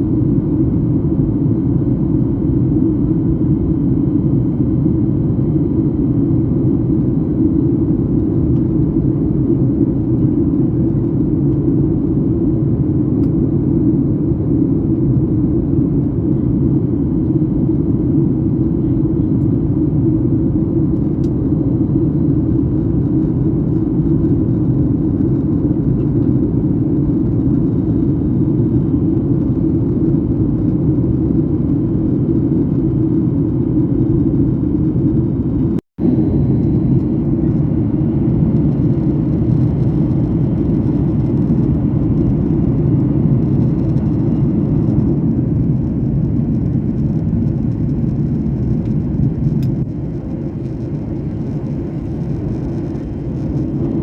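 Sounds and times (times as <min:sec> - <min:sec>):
airliner cabin engine noise: 0:00.0 - 0:54.0.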